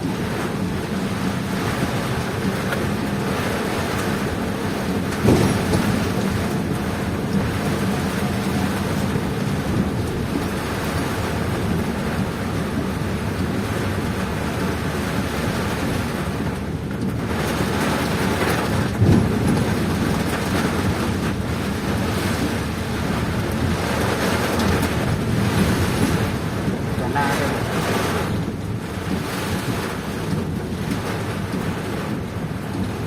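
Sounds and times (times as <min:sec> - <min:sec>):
heavy rain: 0:00.0 - 0:33.0
strong wind: 0:00.0 - 0:33.0.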